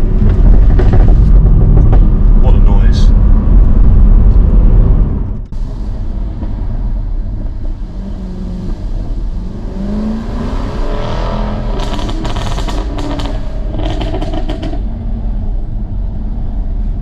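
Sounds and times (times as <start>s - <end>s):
exhaust crackles and pops: 0.0s - 10.4s, 11.5s - 15.1s
car exhaust engine roar: 0.0s - 17.0s.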